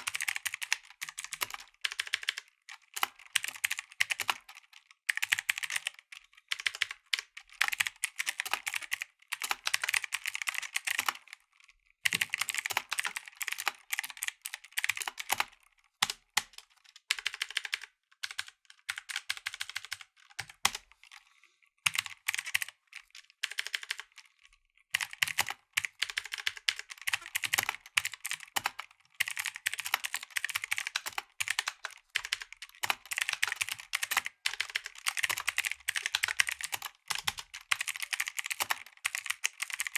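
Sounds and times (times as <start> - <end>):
mechanical keyboard clicks: 0.0 - 21.2, 21.9 - 24.2, 24.9 - 39.9.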